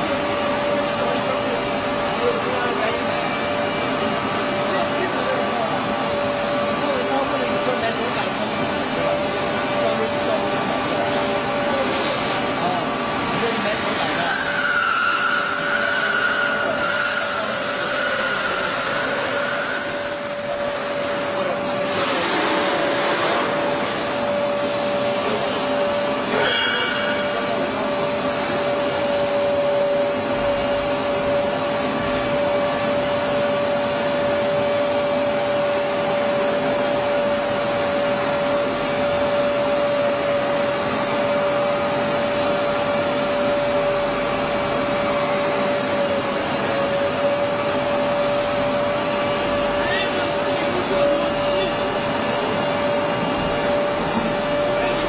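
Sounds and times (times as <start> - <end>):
continuous rushing noise: 0.0 - 55.0
router spindle whine: 0.0 - 55.0.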